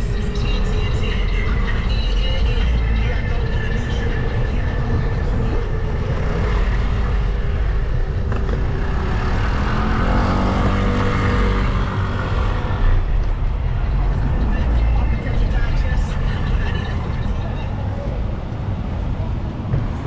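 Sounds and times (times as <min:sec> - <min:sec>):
vehicles passing: 0:00.0 - 0:20.0
engine drone passing by: 0:00.8 - 0:19.3.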